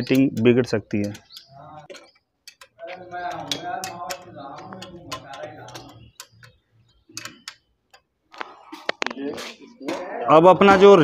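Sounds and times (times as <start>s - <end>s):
spanner clicking on metal nuts: 0.0s - 8.9s.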